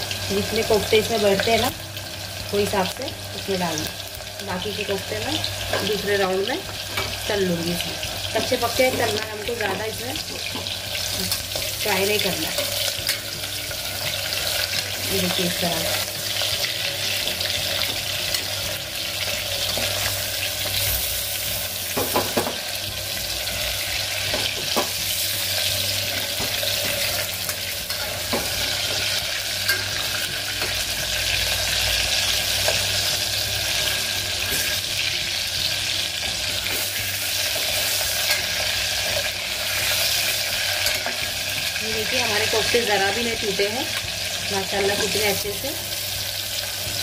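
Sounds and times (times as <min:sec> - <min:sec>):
meat sizzling in hot oil: 0:00.0 - 0:47.0.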